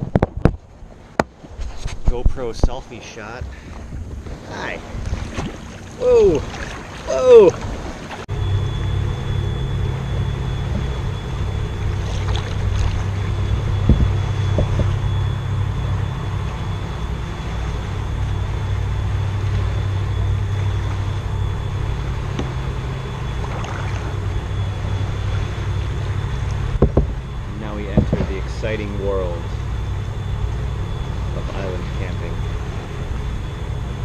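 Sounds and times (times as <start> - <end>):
engine droning steadily: 0.0 - 34.0.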